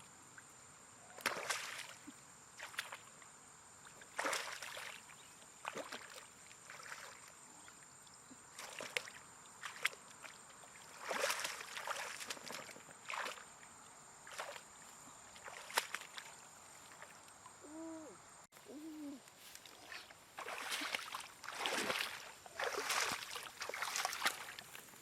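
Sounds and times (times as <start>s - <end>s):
water splashing and sloshing: 1.2s - 3.2s, 3.8s - 7.8s, 8.4s - 17.6s, 19.4s - 25.0s.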